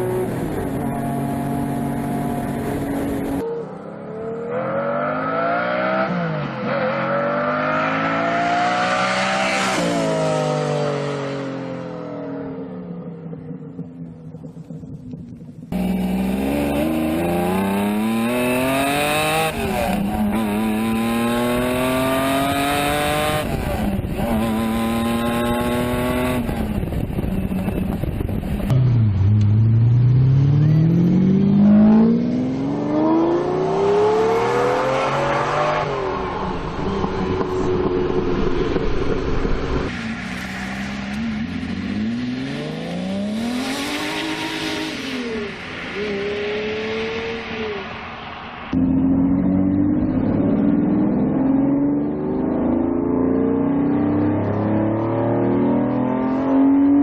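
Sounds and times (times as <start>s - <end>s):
sports car accelerating through gears: 0.0s - 12.6s, 15.7s - 48.0s, 48.7s - 57.0s.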